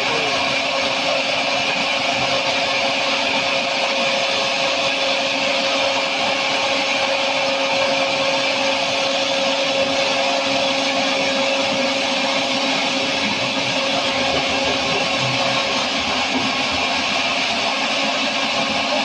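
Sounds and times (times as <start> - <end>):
constant machine hum: 0.0 - 19.0.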